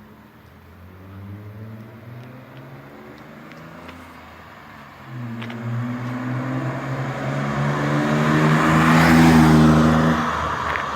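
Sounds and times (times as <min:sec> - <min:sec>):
car engine idling and revving: 0:00.0 - 0:10.9.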